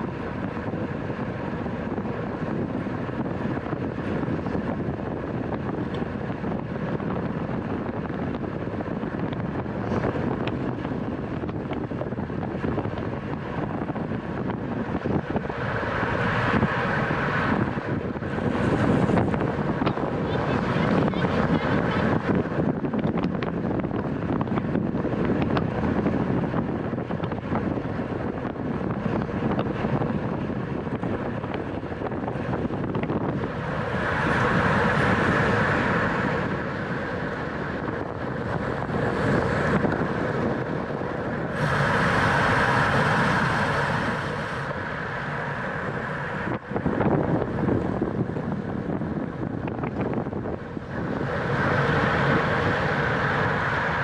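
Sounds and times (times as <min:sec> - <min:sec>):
bicycle rolling noise: 0:00.0 - 0:21.2, 0:21.8 - 0:54.0
high whirr: 0:00.0 - 0:54.0
wind rushing over microphone: 0:00.0 - 0:54.0.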